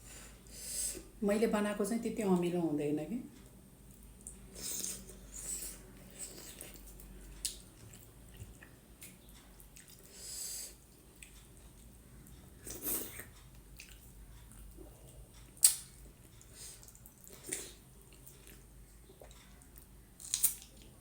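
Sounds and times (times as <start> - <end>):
wet mouth and chewing sounds: 3.9 - 21.0.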